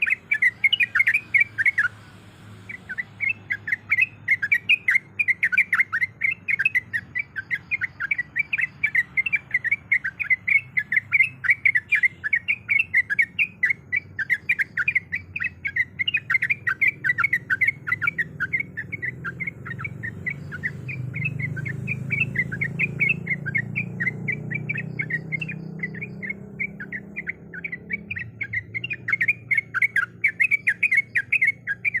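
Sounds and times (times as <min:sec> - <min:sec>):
bulbul chattering: 0:00.0 - 0:32.0.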